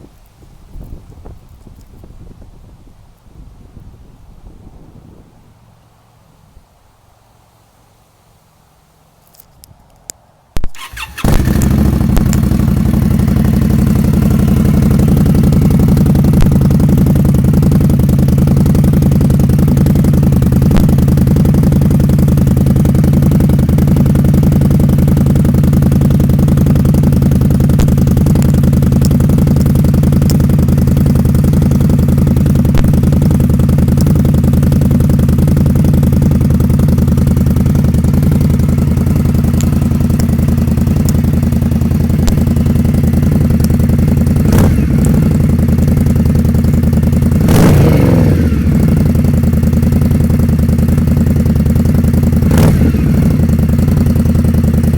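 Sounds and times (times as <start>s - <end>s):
motorcycle engine idling: 10.6s - 54.9s.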